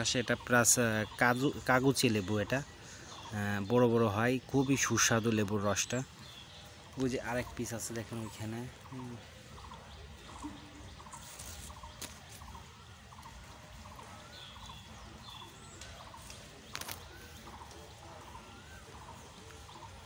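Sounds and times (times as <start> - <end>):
faint pulsed bird calls: 0.0 - 20.0.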